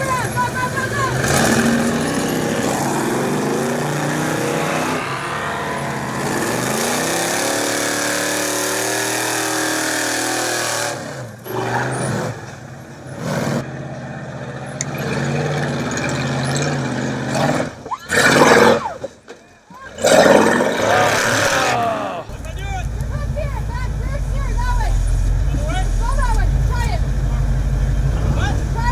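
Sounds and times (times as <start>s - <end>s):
truck engine revving: 0.0s - 18.8s, 19.9s - 28.9s.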